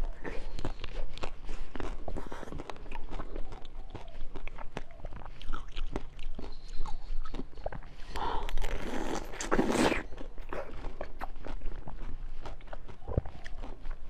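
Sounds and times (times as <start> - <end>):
chewing with crackling clicks: 0.0 - 14.0
loud crunch: 0.0 - 14.0.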